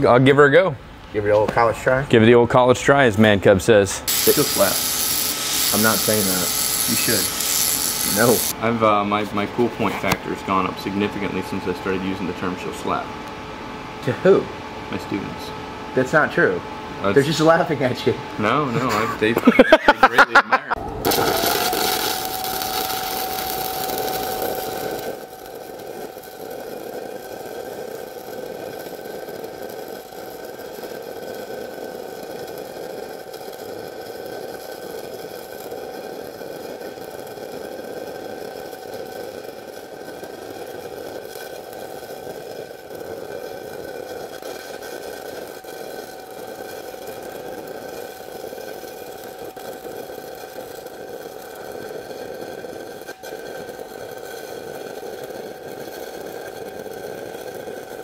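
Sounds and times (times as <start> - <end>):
welding arc crackle and hiss: 2.9 - 15.4, 16.0 - 58.0.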